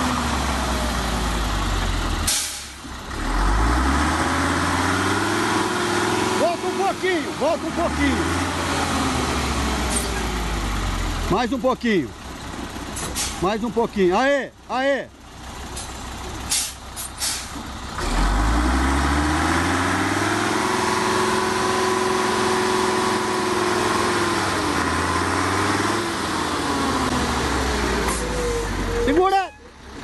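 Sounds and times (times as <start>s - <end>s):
truck diesel engine revving: 0.0s - 30.0s.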